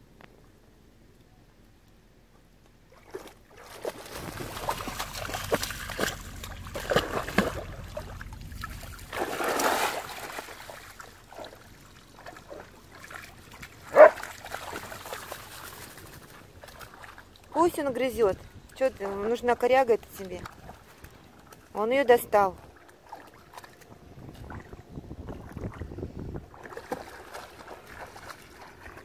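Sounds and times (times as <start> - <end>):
water sloshing and dripping: 2.8 - 29.0
dogs splashing in water: 2.9 - 24.8, 25.4 - 29.0.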